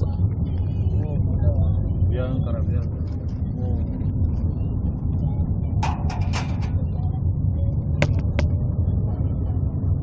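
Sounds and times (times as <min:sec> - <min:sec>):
vehicle cabin rumble: 0:00.0 - 0:10.0.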